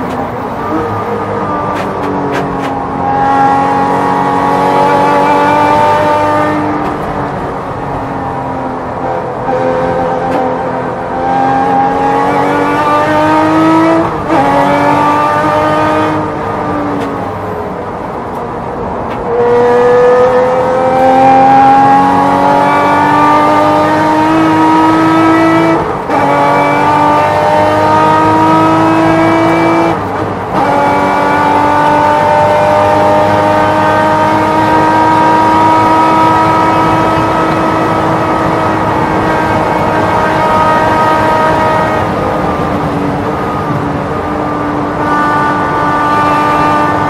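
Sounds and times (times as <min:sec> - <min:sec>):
race car engine at full throttle: 0:00.0 - 0:47.0.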